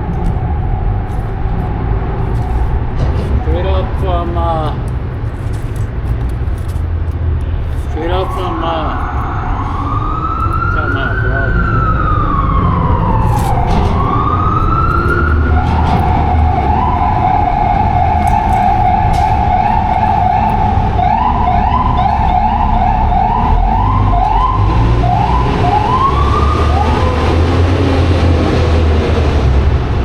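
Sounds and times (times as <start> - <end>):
emergency vehicle siren: 0.0 - 5.4, 7.6 - 30.0
low traffic rumble: 0.0 - 30.0.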